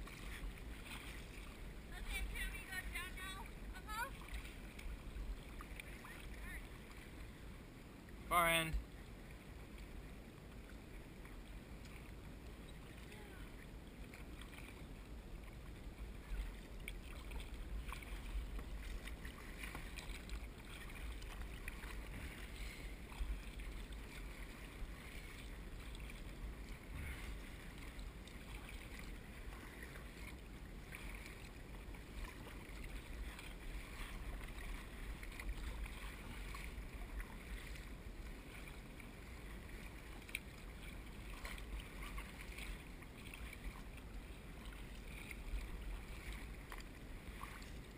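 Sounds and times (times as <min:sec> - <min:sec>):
paddle splashing in water: 0:00.0 - 0:47.9.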